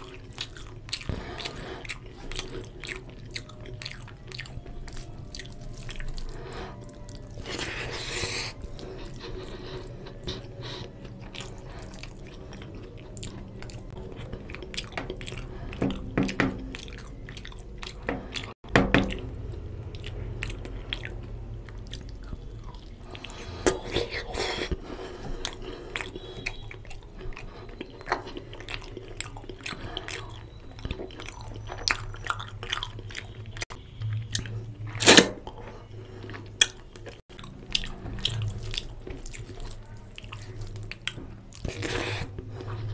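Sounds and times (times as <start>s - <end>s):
wet chewing and lip smacking: 0.0s - 42.9s.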